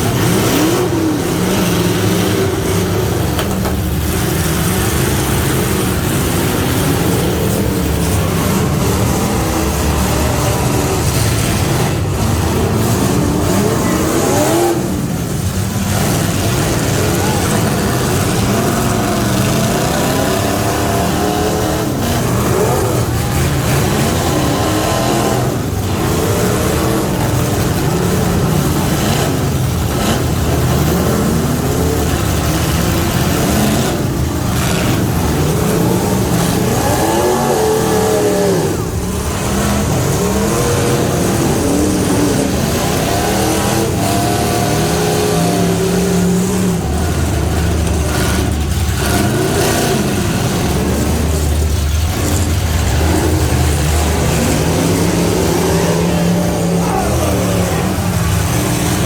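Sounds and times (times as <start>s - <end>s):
pickup truck engine revving: 0.0s - 59.0s.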